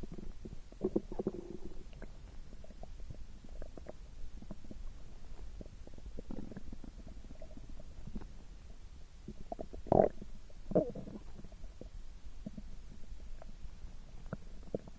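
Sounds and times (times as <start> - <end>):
stomach gurgling: 0.0 - 14.9.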